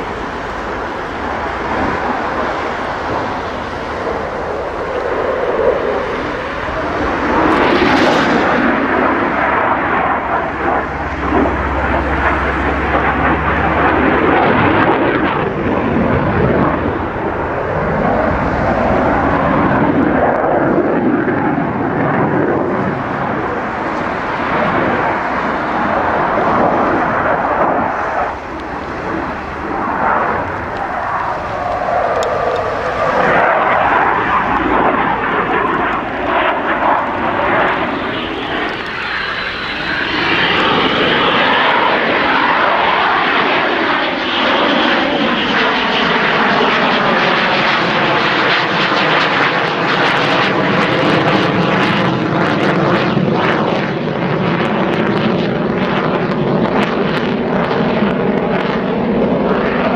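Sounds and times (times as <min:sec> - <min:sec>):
jet engine roar: 0:00.0 - 0:59.9
thin jet whine: 0:00.0 - 0:59.9.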